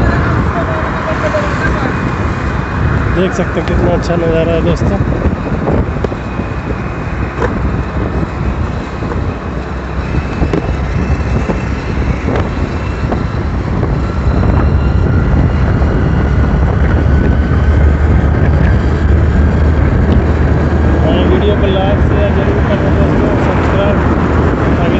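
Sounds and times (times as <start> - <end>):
vehicle rumble on highway: 0.0 - 24.9
wind rushing over microphone: 0.0 - 24.9.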